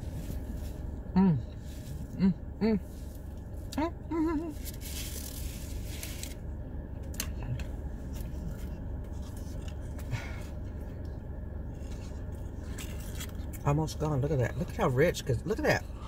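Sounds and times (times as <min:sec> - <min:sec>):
car air conditioning hum: 0:00.0 - 0:16.0.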